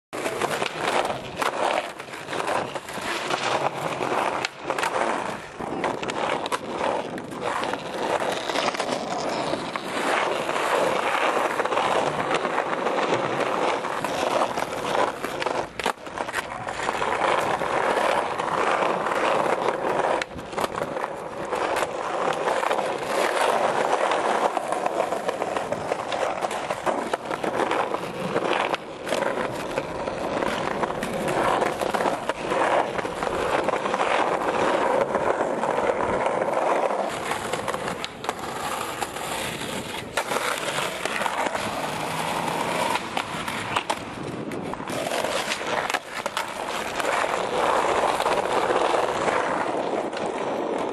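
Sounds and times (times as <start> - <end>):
skateboard wheels rolling on concrete: 0.1 - 50.9
skateboard popping and landing clacks: 0.2 - 50.9.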